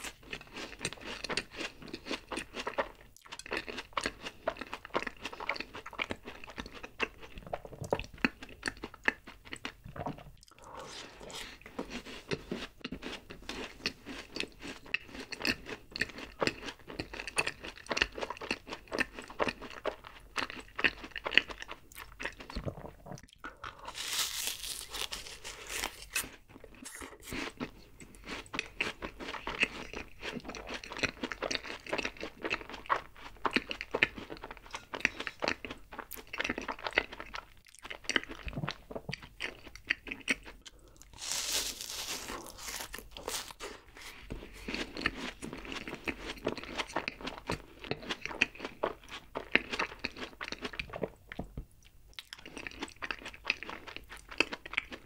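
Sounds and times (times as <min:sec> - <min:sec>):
crunching and chewing pastry: 0:00.0 - 0:55.0.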